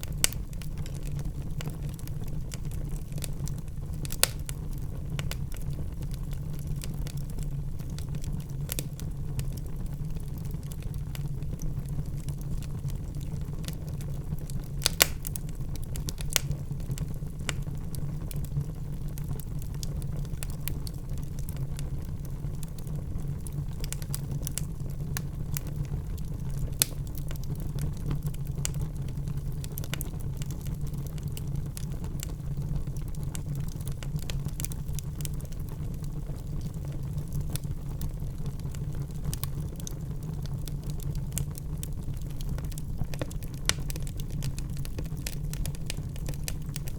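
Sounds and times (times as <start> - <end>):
logs crackling and popping: 0.0 - 46.9
low rumble of flames: 0.0 - 46.9.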